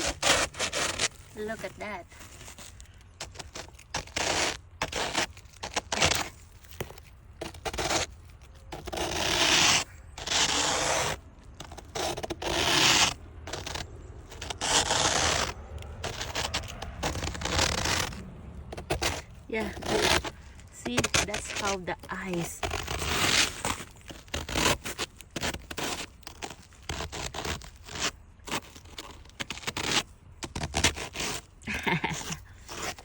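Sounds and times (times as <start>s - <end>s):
ice being scraped: 0.0s - 33.0s.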